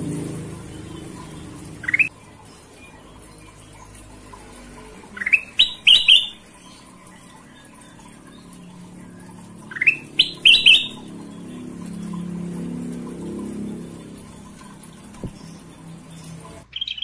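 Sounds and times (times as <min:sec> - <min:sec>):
bulbul singing rising notes: 0:00.0 - 0:17.0.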